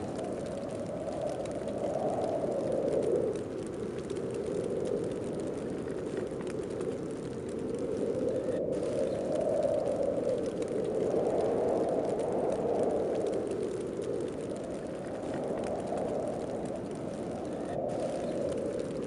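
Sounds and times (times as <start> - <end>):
snowstorm wind blowing: 0.0 - 19.0.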